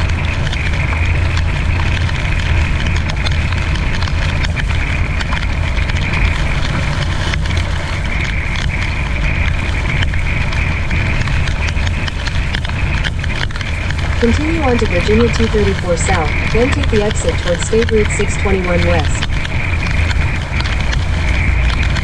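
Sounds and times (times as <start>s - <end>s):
raindrops ticking on windshield: 0.0s - 22.0s
truck engine and road drone: 0.0s - 22.0s.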